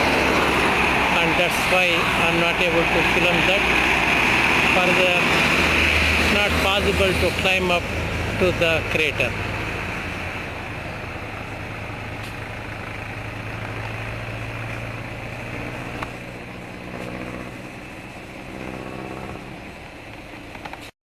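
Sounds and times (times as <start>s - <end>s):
vehicle engine humming: 0.0s - 20.9s.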